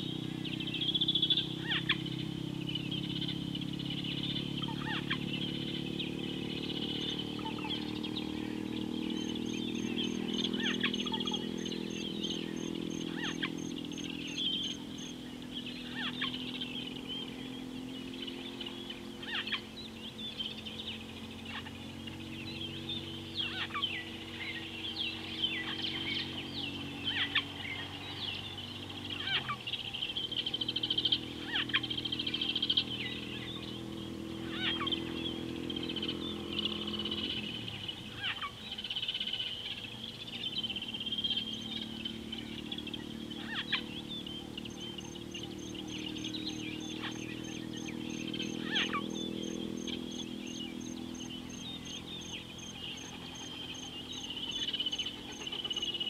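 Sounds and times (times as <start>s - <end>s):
high bird chatter: 0.0s - 56.0s
low steady hum: 0.0s - 56.0s.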